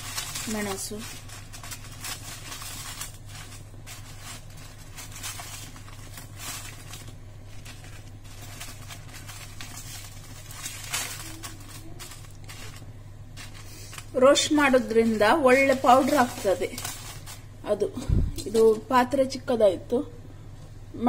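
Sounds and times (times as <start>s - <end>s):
dried chillies crackling in a pan: 0.0s - 19.6s
steady low hum: 0.0s - 21.0s.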